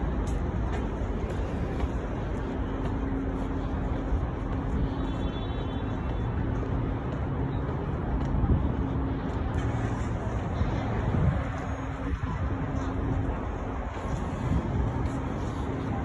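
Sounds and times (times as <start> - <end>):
faint engine hum: 0.0 - 16.0
road vehicles passing: 0.0 - 16.0.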